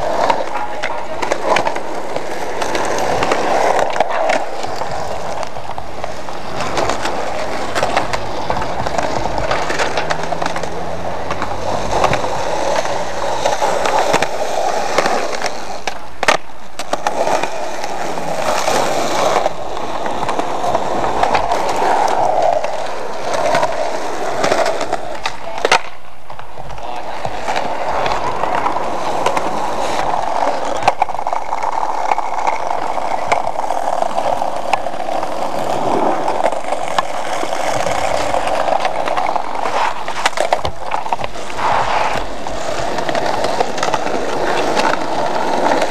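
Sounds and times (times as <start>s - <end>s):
skateboard clacks and knocks: 0.0s - 45.9s
skateboard wheels rolling on concrete: 0.0s - 45.9s.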